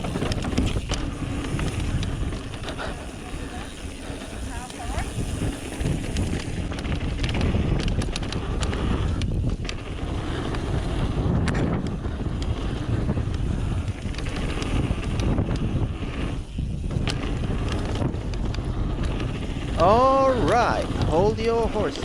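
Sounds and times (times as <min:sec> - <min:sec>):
bike clicks and rattles: 0:00.0 - 0:22.0
bike tyres on dirt trail: 0:00.0 - 0:22.0
wind buffeting microphone: 0:00.0 - 0:22.0.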